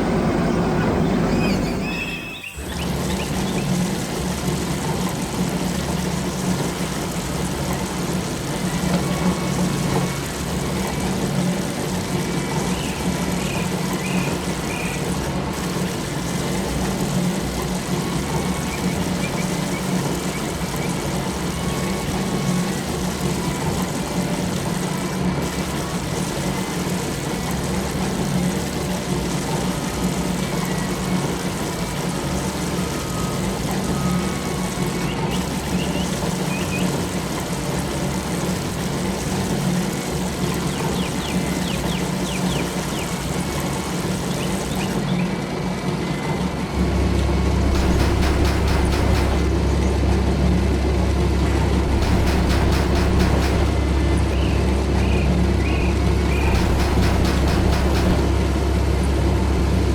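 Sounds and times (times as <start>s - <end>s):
farm machine engine humming: 0.0s - 59.9s.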